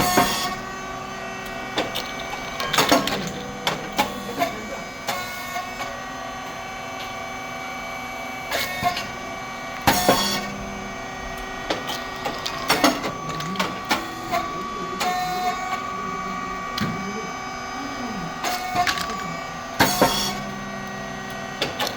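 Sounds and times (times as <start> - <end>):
machine motor humming: 0.0 - 21.9.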